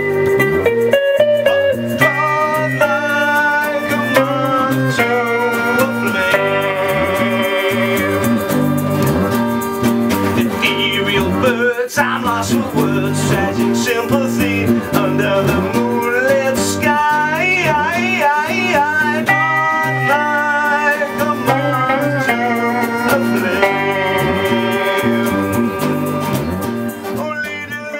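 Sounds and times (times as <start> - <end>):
melodica: 0.0 - 11.0, 12.8 - 27.9
guitar: 0.0 - 27.9
person singing: 1.7 - 27.9.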